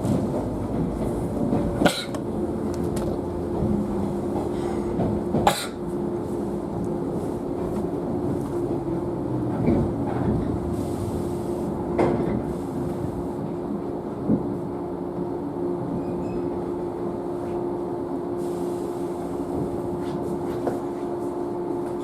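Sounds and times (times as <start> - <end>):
train running noise with hum: 0.0 - 22.0.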